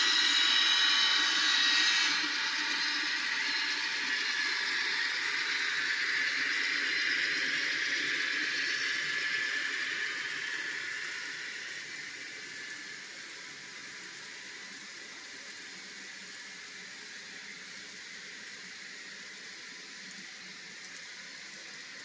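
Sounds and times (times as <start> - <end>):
model train wheels whirring on rail: 0.0 - 22.0.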